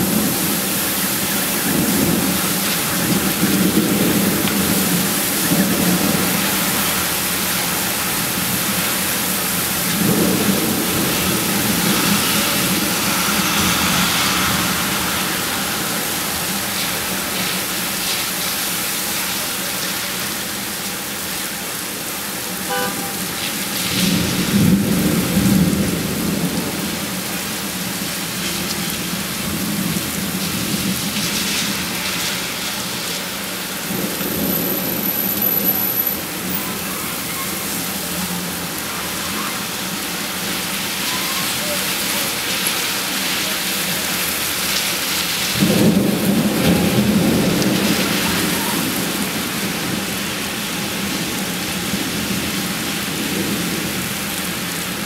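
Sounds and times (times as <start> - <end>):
heavy rain on a street: 0.0 - 55.0.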